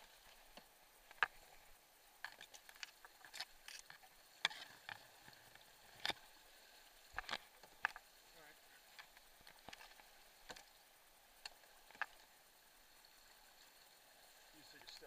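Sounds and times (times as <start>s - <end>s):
grass and brush rustling and crackling: 0.0s - 15.0s.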